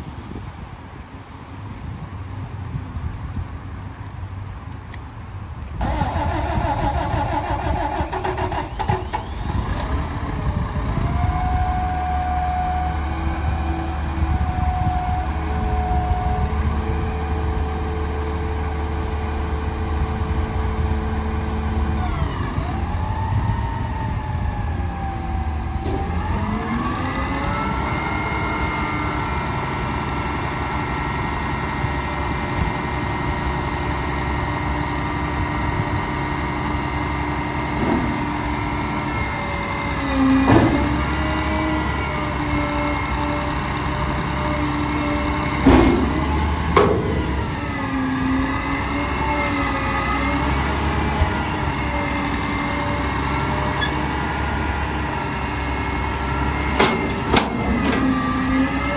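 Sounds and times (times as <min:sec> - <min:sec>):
garbage truck engine running: 0:05.8 - 0:58.9.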